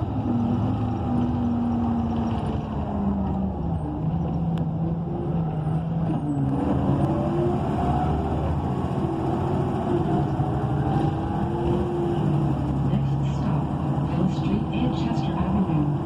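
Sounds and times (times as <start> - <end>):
bus engine running: 0.0 - 16.0.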